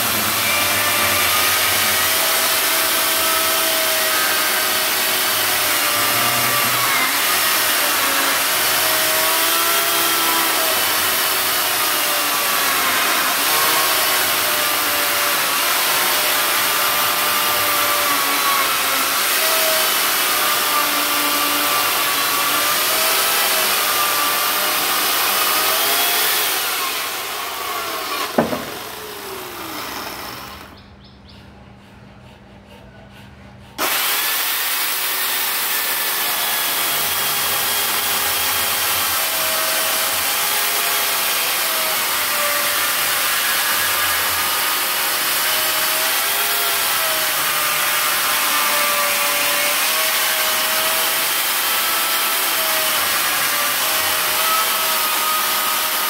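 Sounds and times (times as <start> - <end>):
electric chainsaw cutting wood: 0.0 - 30.8, 33.8 - 56.0.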